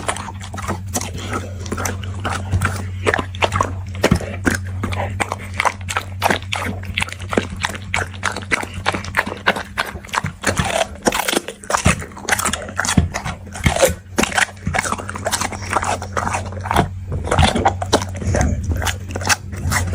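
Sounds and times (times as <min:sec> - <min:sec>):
dog chewing food: 0:00.0 - 0:19.9
low hum: 0:00.0 - 0:19.9.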